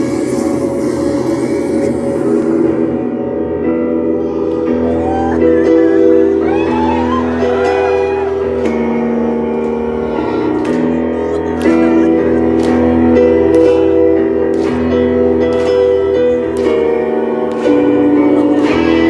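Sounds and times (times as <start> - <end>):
electric guitars holding chords: 0.0 - 19.0.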